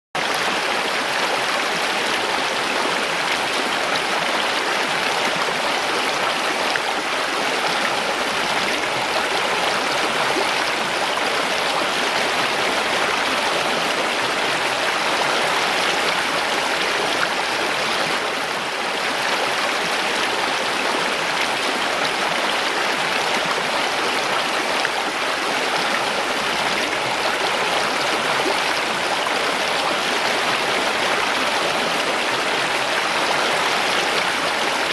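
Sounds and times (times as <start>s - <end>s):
stream rushing over rocks: 0.2s - 34.9s.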